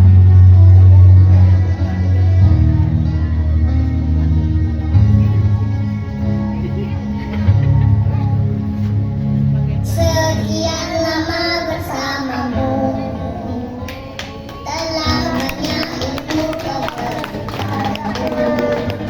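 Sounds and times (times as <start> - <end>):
children's choir singing: 0.0 - 8.4, 9.9 - 19.0.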